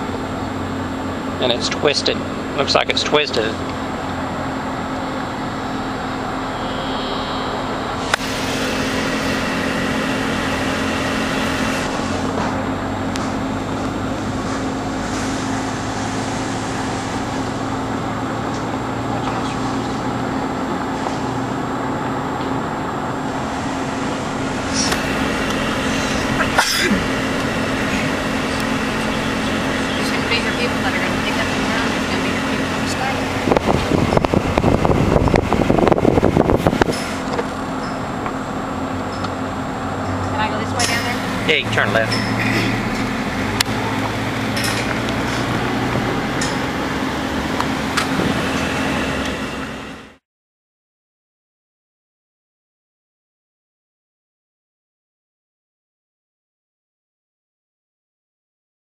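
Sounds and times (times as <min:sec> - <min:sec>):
low hum: 0:00.0 - 0:20.7, 0:22.1 - 0:50.2
car road and engine noise: 0:00.0 - 0:50.2.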